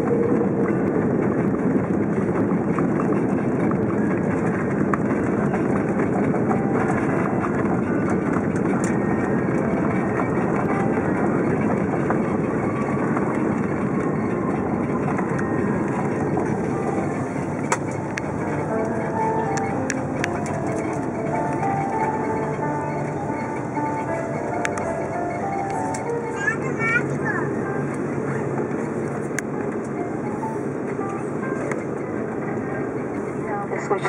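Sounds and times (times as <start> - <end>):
airliner cabin roar: 0.0 - 34.0.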